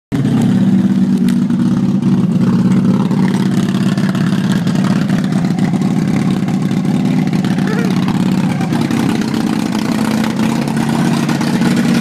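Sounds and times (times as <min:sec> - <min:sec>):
motorcycle engine running steadily: 0:00.1 - 0:12.0.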